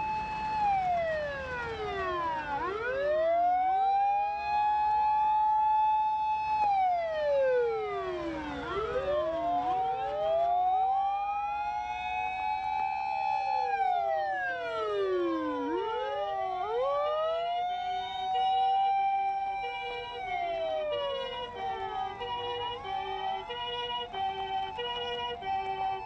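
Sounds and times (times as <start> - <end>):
emergency vehicle sirens wailing: 0.0 - 26.0.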